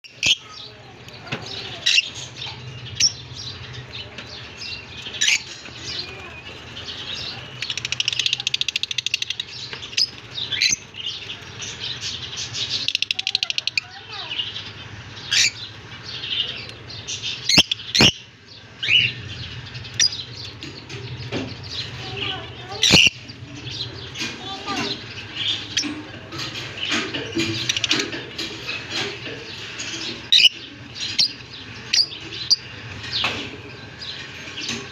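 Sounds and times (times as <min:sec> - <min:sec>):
budgerigars chirping: 0:01.5 - 0:33.4.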